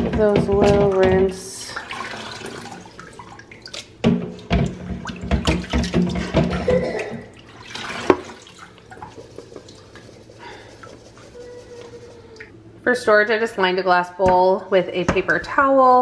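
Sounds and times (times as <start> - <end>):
water sloshing in sink: 0.0 - 13.2.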